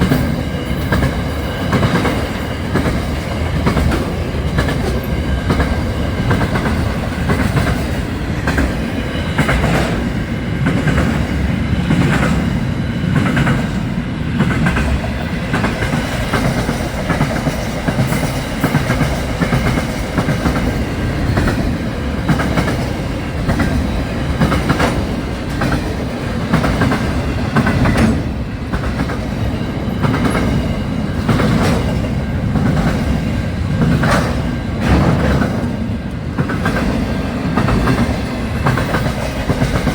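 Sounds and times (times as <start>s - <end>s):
train rumble: 0.0s - 39.9s
wheels clacking over rail joints: 0.0s - 39.9s.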